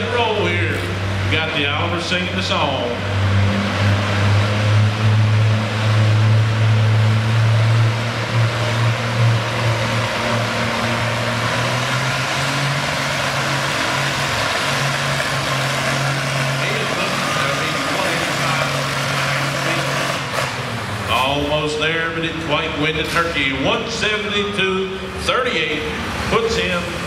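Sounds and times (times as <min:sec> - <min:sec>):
tractor engine under load: 0:00.0 - 0:27.0.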